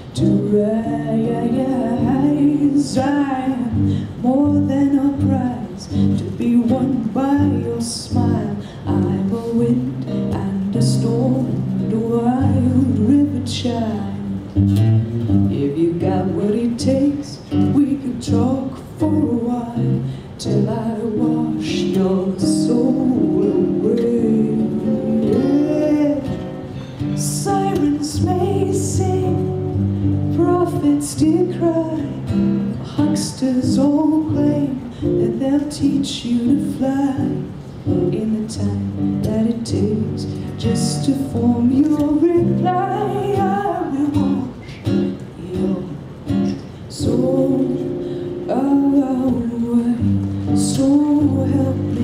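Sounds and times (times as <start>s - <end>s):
acoustic guitar strumming: 0.0s - 52.0s
woman singing: 0.0s - 52.0s.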